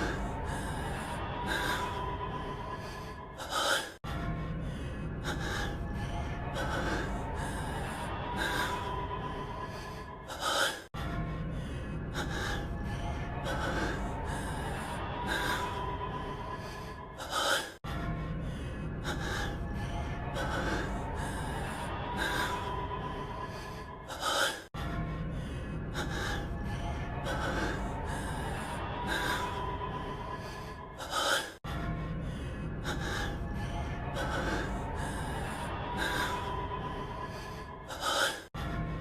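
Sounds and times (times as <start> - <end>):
man breathing heavily and gasping: 0.0 - 39.0.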